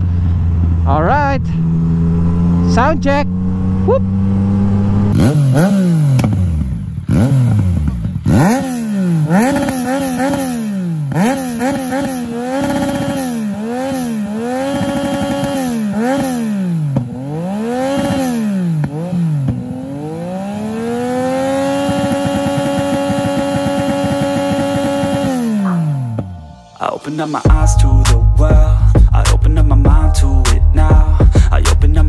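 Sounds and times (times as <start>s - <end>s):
motorcycle engine revving: 0.0s - 26.7s.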